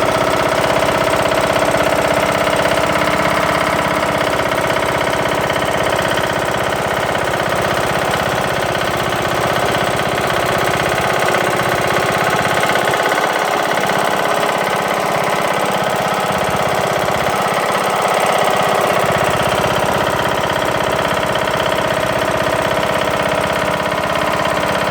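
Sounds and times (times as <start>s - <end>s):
lawn tractor engine knocking: 0.0s - 24.9s.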